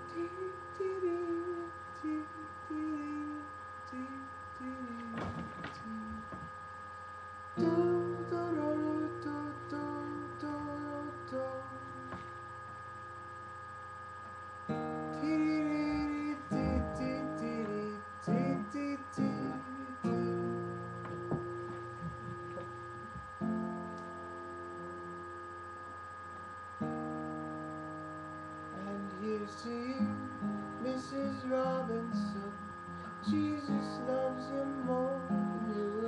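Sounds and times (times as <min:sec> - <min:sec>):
acoustic guitar strumming: 0:00.0 - 0:03.6, 0:04.8 - 0:36.0.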